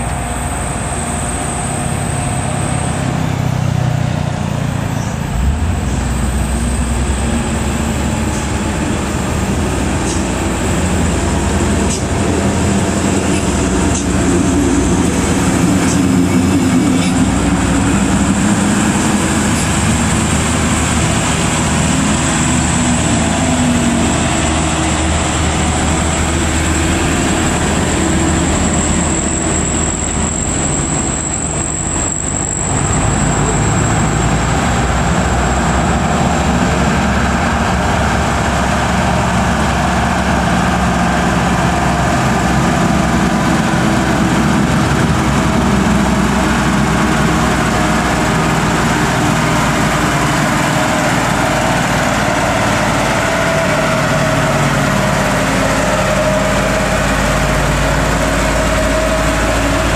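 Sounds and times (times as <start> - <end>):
truck diesel engine pulling uphill: 0.0 - 59.9.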